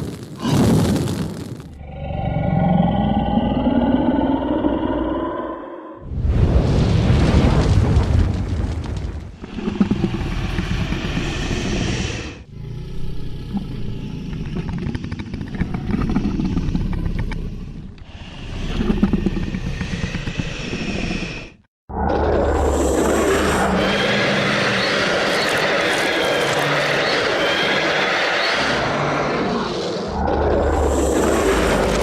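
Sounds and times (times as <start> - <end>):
deep creature sounds: 0.4 - 1.1, 1.7 - 8.3, 9.1 - 32.0.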